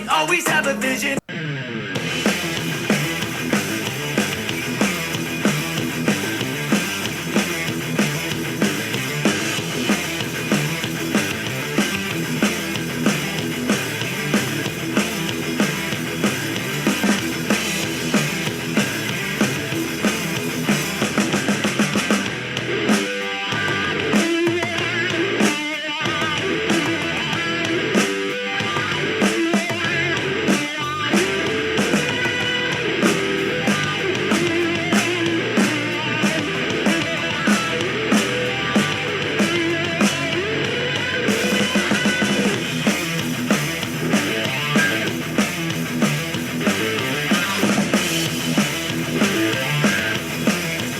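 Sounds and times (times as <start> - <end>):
instrumental rock music from speaker: 0.0 - 50.9.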